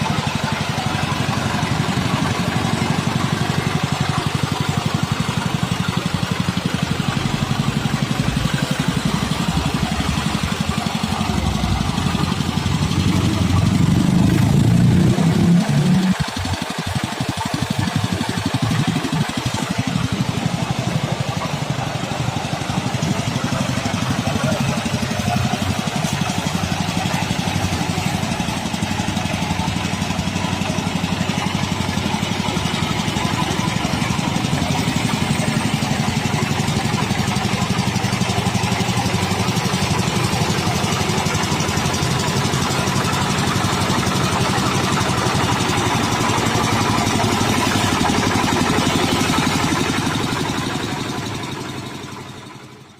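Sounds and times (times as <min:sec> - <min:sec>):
road roller engine running: 0:00.0 - 0:52.9.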